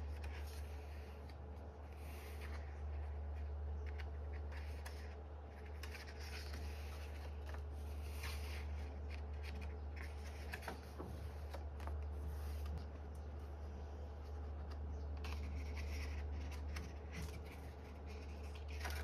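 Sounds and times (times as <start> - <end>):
paper rustling and sliding: 0.0 - 12.9, 14.6 - 19.0
steady low hum: 0.0 - 19.0.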